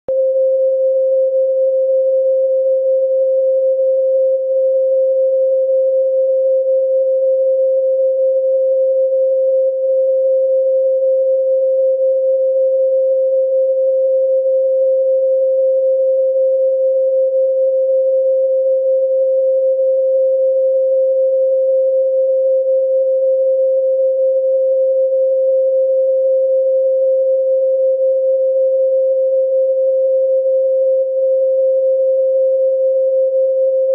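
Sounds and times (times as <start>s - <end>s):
steady sine tone: 0.1s - 33.9s.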